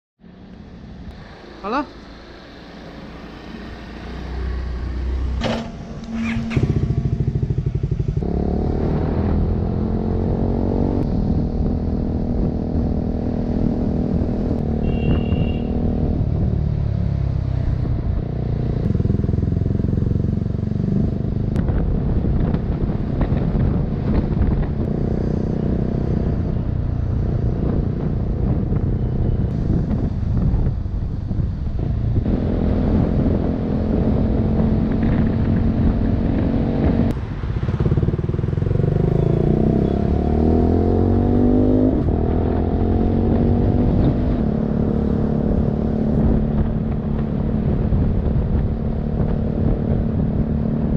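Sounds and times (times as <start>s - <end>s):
motorcycle engine accelerating: 0.8s - 50.9s.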